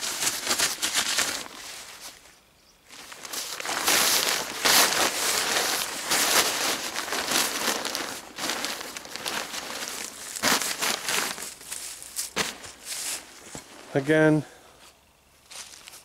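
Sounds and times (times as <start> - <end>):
fabric crinkling and rustling: 0.0 - 2.3, 2.9 - 14.0.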